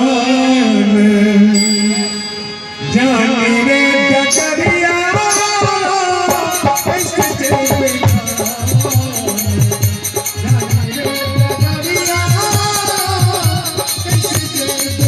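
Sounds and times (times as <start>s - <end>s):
man singing: 0.0s - 15.0s
percussion: 1.5s - 15.0s.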